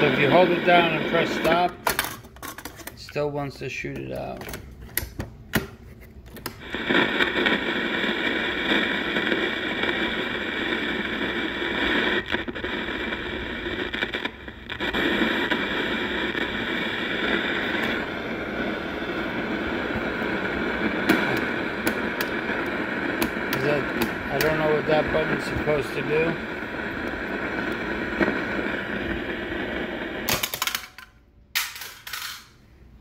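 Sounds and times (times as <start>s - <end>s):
radio speaker hiss: 0.0s - 2.0s, 6.4s - 31.0s.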